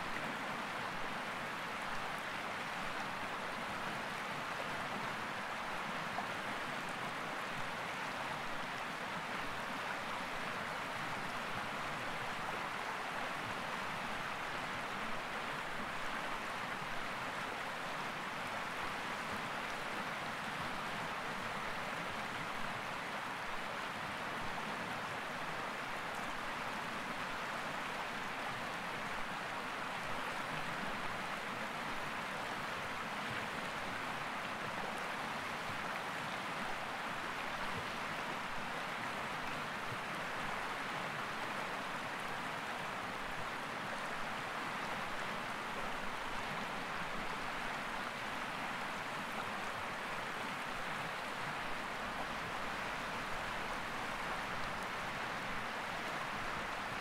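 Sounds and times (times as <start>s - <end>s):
river running over rocks: 0.0s - 57.0s.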